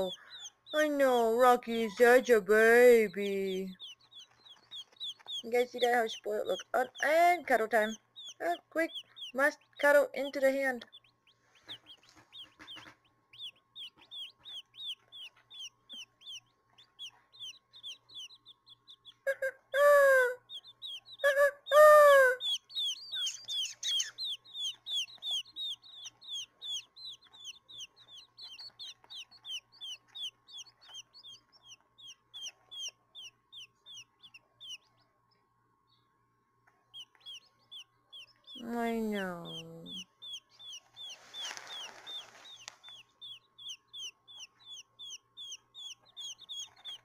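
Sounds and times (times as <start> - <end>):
quail chick peeping: 0.0 - 47.0.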